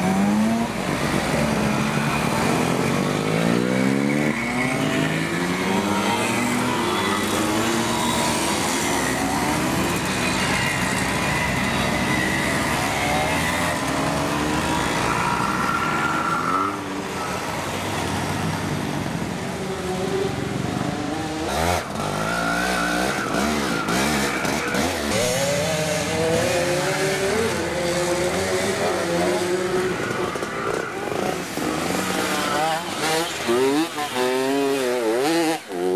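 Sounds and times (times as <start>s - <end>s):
two-stroke motorcycles revving: 0.0s - 35.9s.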